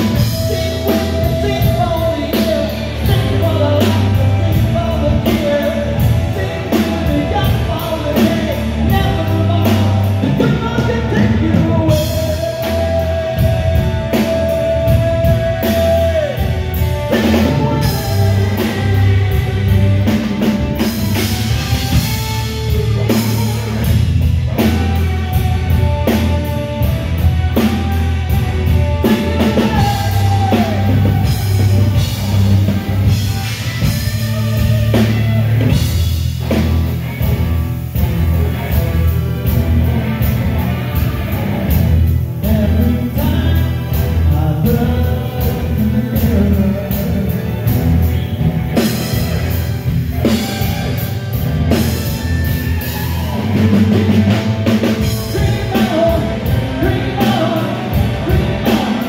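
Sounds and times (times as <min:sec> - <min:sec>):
man singing: 0:00.0 - 0:23.9, 0:24.6 - 0:35.8, 0:42.2 - 0:49.5, 0:51.7 - 0:59.0
drum kit: 0:00.0 - 0:59.0
live rock band playing: 0:00.0 - 0:59.0.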